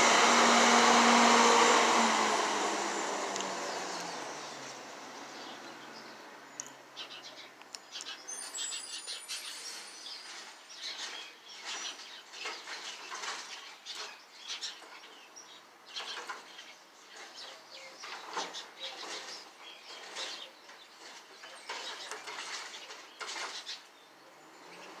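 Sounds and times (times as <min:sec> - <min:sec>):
small birds chirping: 0:03.3 - 0:25.0.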